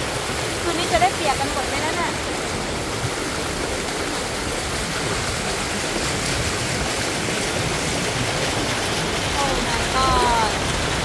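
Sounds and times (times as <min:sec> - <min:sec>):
floodwater rushing: 0:00.0 - 0:11.0
rain falling on water: 0:00.0 - 0:11.0.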